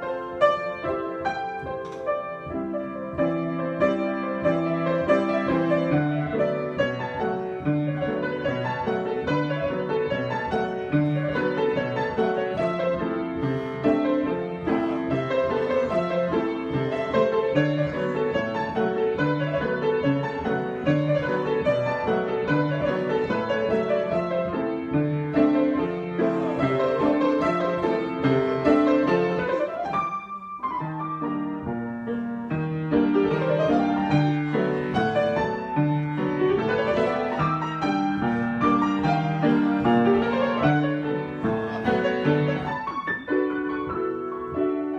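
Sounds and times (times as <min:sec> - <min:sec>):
piano improvisation: 0:00.0 - 0:44.9.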